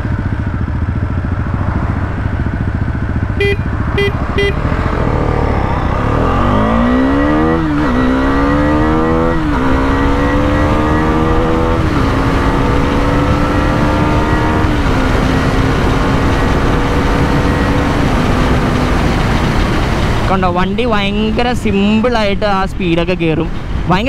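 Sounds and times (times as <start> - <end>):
motorcycle engine accelerating: 0.0 - 22.6.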